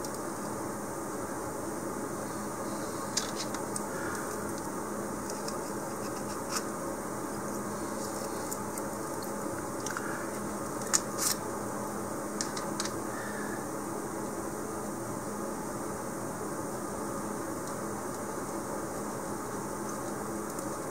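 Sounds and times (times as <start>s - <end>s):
low room hum: 0.0s - 20.9s.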